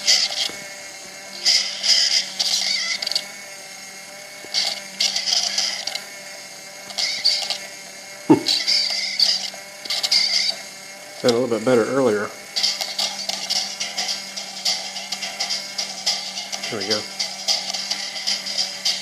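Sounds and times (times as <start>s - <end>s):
servo motor whirring and grinding: 0.0s - 19.0s.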